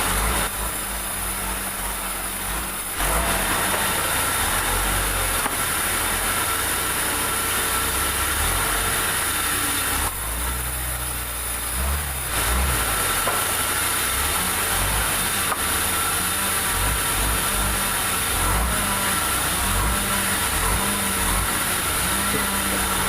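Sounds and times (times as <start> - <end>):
sawmill machinery engine drone: 0.0 - 23.0.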